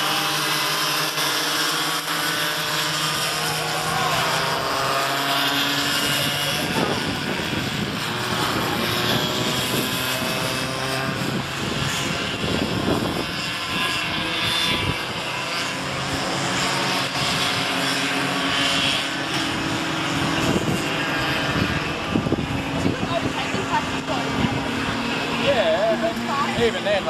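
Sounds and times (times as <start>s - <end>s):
go-kart engines whining past: 0.0s - 27.0s.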